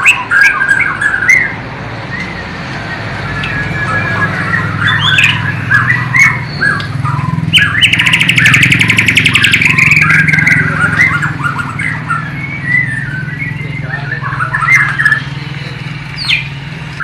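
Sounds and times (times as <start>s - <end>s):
songbird whistling phrases: 0.0s - 16.5s
fast rattling bird trill: 2.2s - 17.0s.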